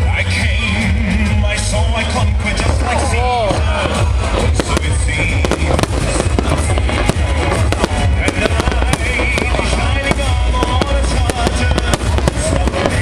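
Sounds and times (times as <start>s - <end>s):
deep rumble: 0.0s - 13.0s
fireworks cracks and bangs: 0.0s - 13.0s
music playing: 0.0s - 13.0s.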